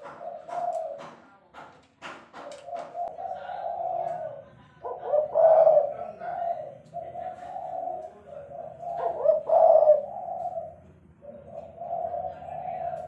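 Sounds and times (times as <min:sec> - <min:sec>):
dove cooing: 0:00.0 - 0:01.2, 0:02.4 - 0:13.0.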